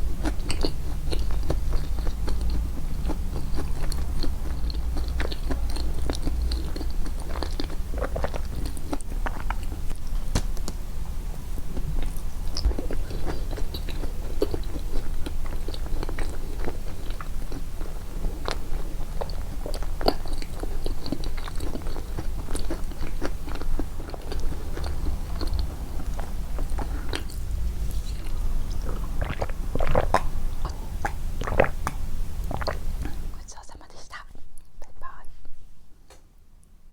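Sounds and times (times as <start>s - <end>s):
person chewing cake: 0.0s - 33.4s.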